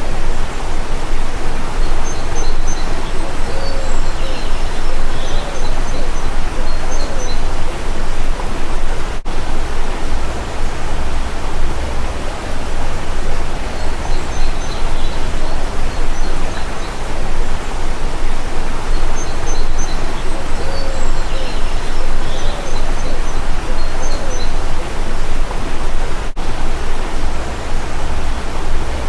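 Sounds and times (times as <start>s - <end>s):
faint bird chirps: 0.0s - 26.1s
stream rushing: 0.0s - 29.0s.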